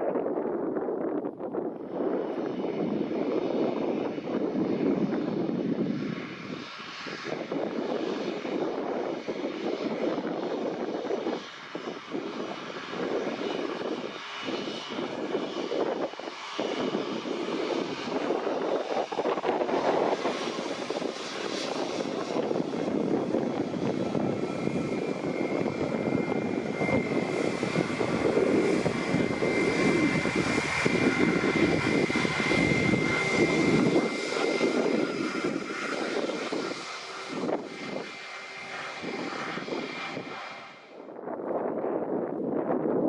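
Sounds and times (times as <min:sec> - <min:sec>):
jet engines rumbling with whine: 0:00.0 - 0:43.0.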